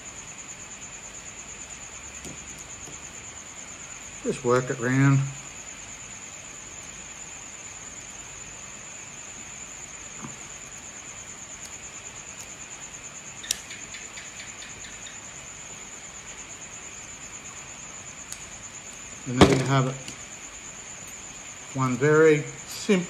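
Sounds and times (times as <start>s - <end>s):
insect trilling: 0.0s - 23.0s.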